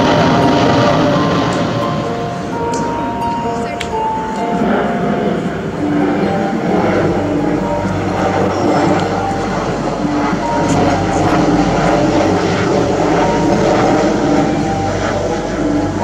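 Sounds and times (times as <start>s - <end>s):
jet airliner flying overhead: 0.0s - 16.0s.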